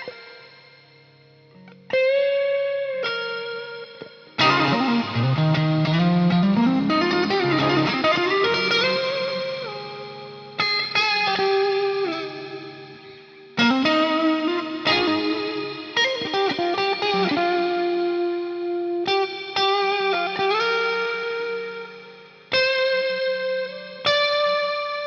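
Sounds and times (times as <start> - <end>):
electric guitar lead notes: 0.0 - 25.0.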